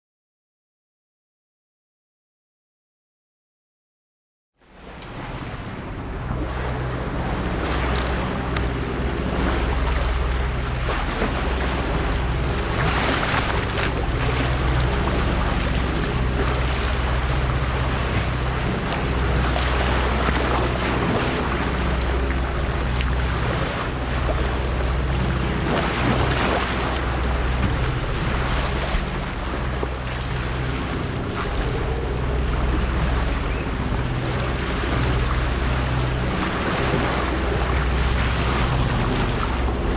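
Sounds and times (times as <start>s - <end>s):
boat engine running: 4.6s - 39.9s
water rushing along hull: 4.6s - 39.9s.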